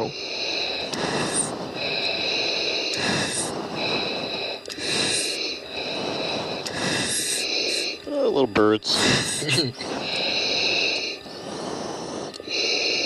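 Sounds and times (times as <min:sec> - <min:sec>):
breathing through oxygen mask: 0:00.0 - 0:13.0.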